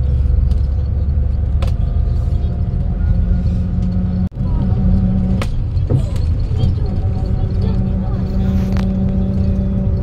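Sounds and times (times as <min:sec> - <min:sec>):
bus engine and road rumble: 0:00.0 - 0:10.0
steady drone: 0:00.0 - 0:10.0.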